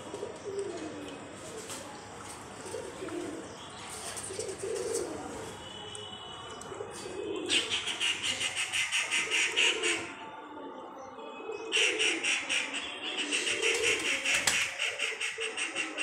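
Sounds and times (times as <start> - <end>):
pigeons cooing: 0.0 - 5.6, 6.6 - 10.7, 11.4 - 16.0.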